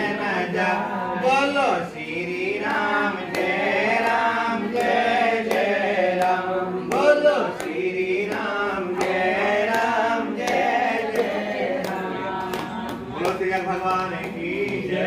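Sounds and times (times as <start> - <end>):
group of voices chanting: 0.0 - 15.0
steady beat of sharp clicks: 2.0 - 15.0.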